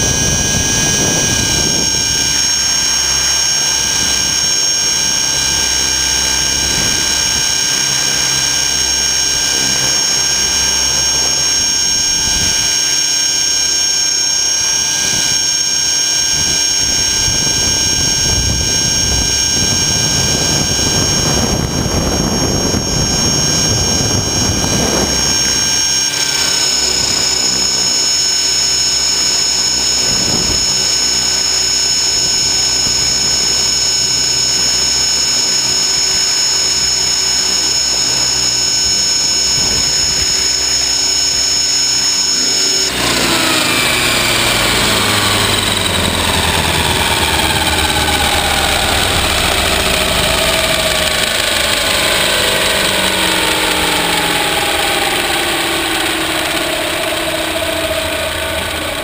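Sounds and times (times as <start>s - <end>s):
helicopter motor and rotor whine: 0.0s - 59.0s.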